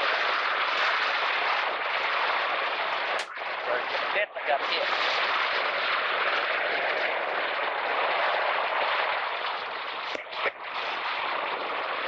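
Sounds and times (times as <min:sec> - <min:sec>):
surf: 0:00.0 - 0:12.0
wind: 0:00.0 - 0:12.0.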